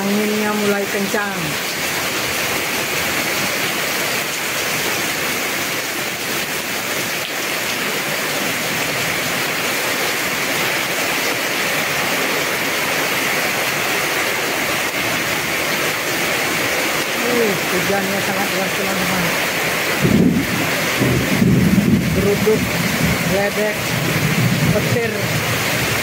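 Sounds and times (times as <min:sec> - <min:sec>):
heavy rain on paving and leaves: 0:00.0 - 0:26.0.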